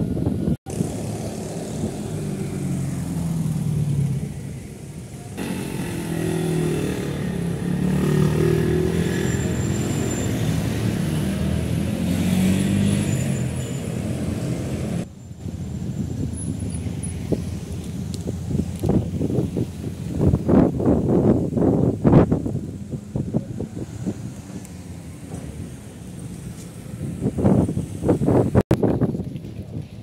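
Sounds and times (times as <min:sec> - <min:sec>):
vehicle engines passing: 0:00.0 - 0:28.6.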